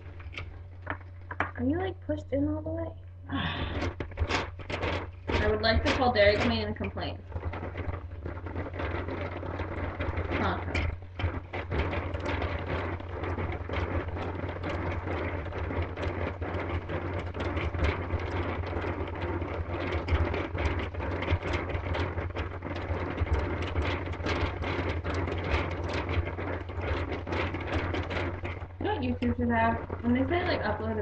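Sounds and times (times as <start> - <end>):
steady low hum: 0.0 - 31.0
ice rattling in cranked ice-cream maker: 3.3 - 31.0.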